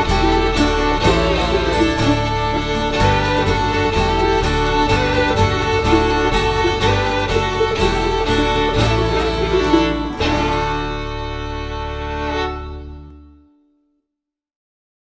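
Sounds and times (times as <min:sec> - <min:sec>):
banjo: 0:00.0 - 0:13.1
fiddles bowing: 0:00.0 - 0:13.3
picked acoustic guitar: 0:00.0 - 0:13.4
resonator guitar: 0:00.0 - 0:13.6.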